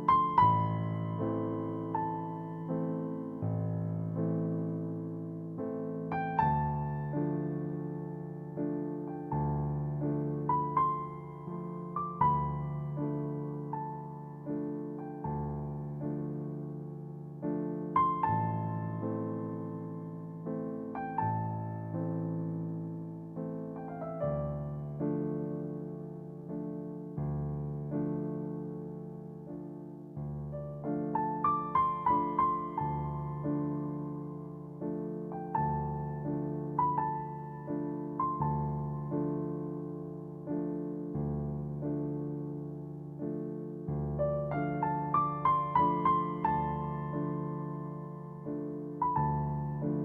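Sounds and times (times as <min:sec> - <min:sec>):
soft piano music: 0:00.0 - 0:50.0.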